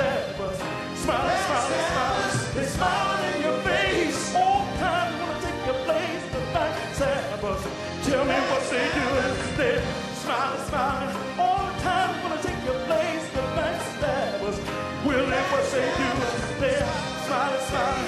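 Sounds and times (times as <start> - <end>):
live soul band playing: 0.0 - 18.0.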